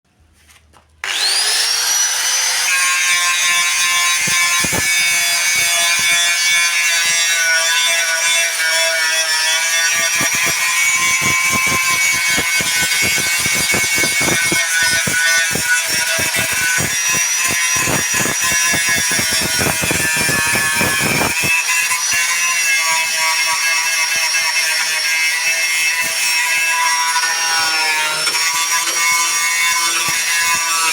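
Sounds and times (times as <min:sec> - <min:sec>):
power tool whining: 0:01.0 - 0:30.9.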